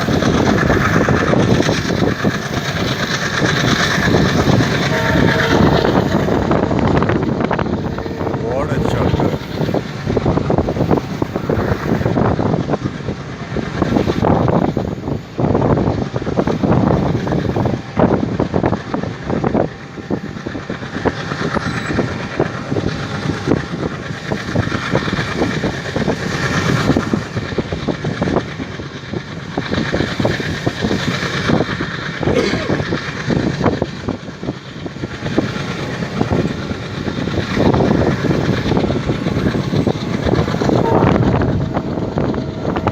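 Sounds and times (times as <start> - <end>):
locomotive engine chugging: 0.0 - 42.9
rail noise: 0.0 - 42.9.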